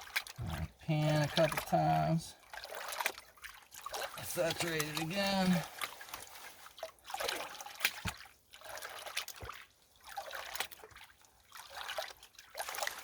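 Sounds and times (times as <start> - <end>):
water sloshing in a pan: 0.0 - 13.0.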